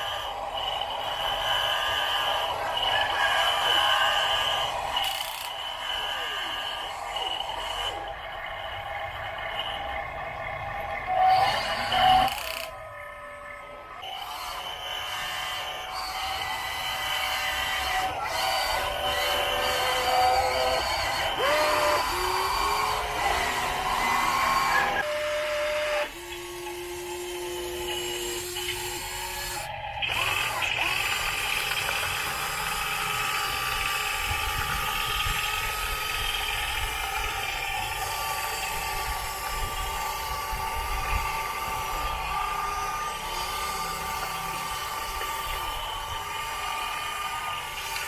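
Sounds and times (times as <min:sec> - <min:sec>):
small electric motors whining: 0:00.0 - 0:48.0.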